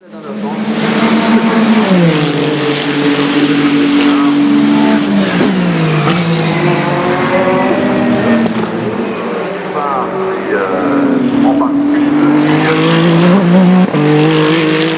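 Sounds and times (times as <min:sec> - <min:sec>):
race car engine running hard: 0:00.1 - 0:14.9.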